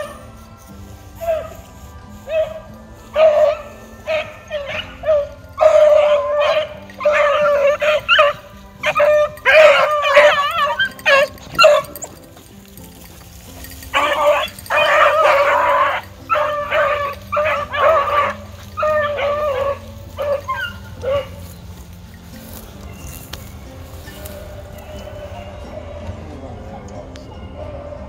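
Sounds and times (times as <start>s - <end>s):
hounds baying: 0.0s - 28.0s.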